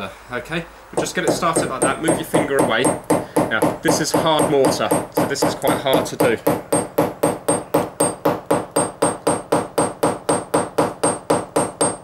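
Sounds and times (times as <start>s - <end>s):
hammer tapping nail: 1.0s - 12.0s.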